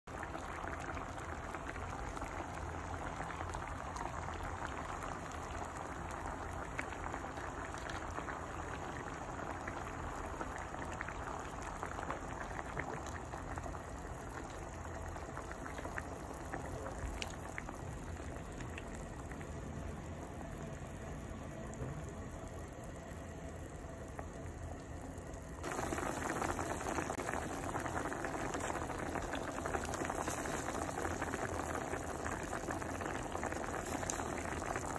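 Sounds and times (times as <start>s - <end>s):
water boiling and bubbling: 0.0s - 34.9s.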